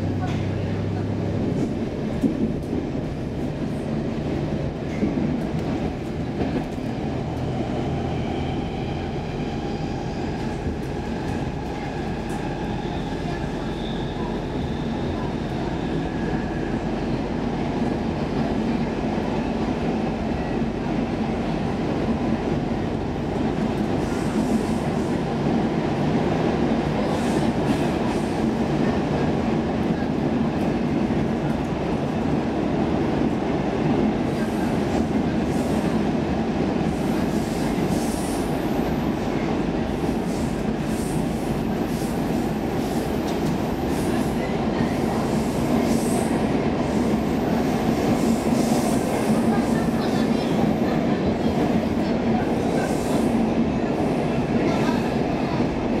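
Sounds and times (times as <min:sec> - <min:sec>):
train wheels rumbling in tunnel: 0:00.0 - 0:56.0.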